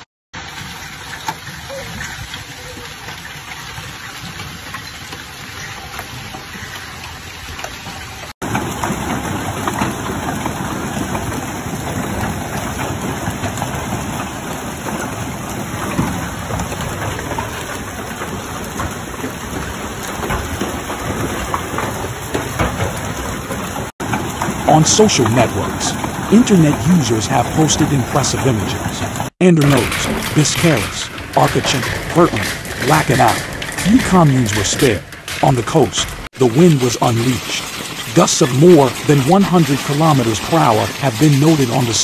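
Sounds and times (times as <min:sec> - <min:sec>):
heavy hail and rain pelting: 0:00.4 - 0:42.0.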